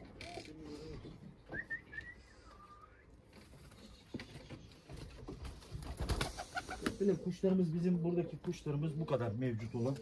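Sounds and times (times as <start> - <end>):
pigeons chirping: 0.0 - 10.0.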